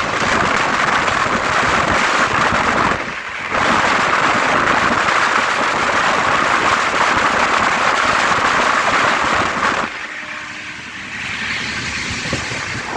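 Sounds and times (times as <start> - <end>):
wheels clattering on rails: 0.0 - 10.0, 11.2 - 12.9
train rushing at speed: 0.0 - 12.9.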